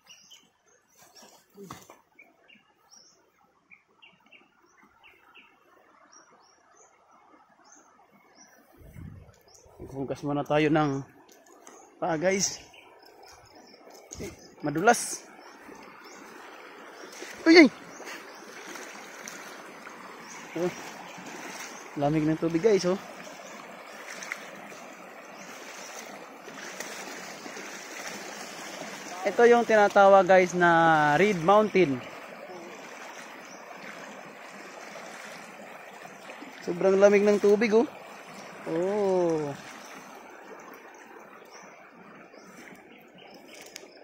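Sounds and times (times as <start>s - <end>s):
stream flowing water: 0.0s - 44.0s.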